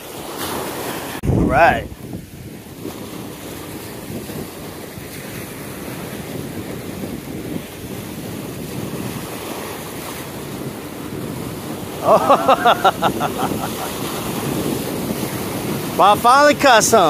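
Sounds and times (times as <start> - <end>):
waves washing against rocks: 0.0 - 17.0
wind buffeting microphone: 1.2 - 17.0.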